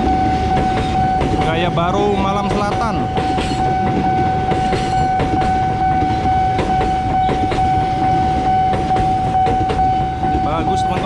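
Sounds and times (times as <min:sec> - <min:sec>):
crossing alarm electronic tone: 0:00.0 - 0:11.0
train rumbling past: 0:00.0 - 0:11.0
wheels clacking over rail joints: 0:00.0 - 0:11.0.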